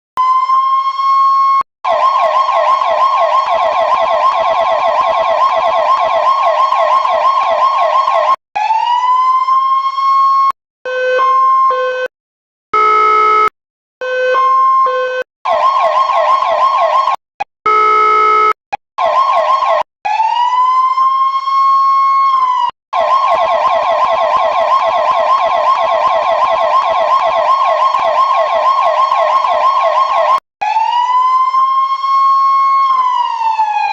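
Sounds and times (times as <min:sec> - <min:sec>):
electronic siren wailing and warbling: 0:00.2 - 0:08.4, 0:12.8 - 0:33.9.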